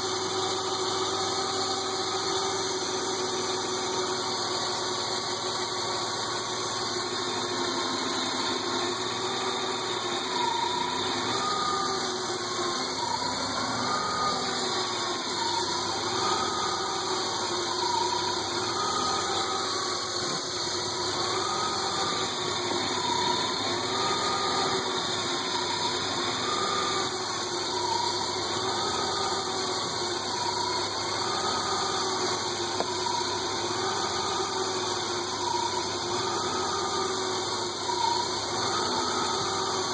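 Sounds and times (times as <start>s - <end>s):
whine rising and falling: 0.0s - 39.9s
car engine idling: 0.2s - 39.9s.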